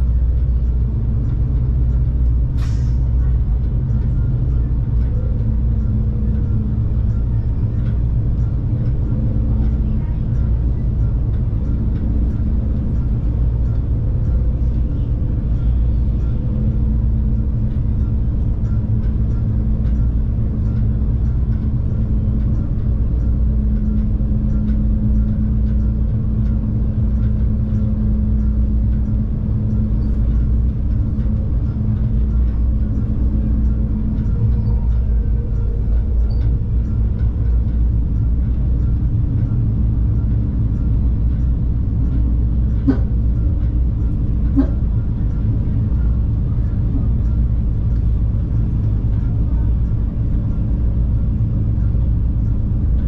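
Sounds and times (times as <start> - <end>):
steady hum: 0.0 - 53.0
train engine and wheels rumbling: 0.0 - 53.0.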